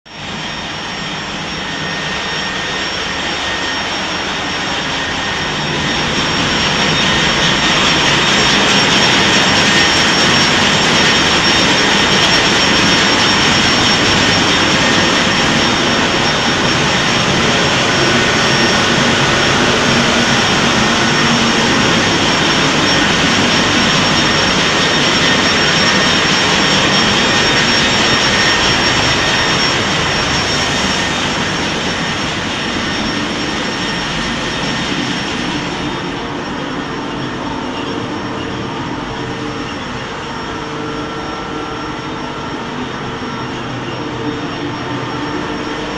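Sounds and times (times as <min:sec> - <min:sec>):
engine room machinery noise: 0:00.1 - 0:45.9
thin high whine: 0:00.1 - 0:45.9.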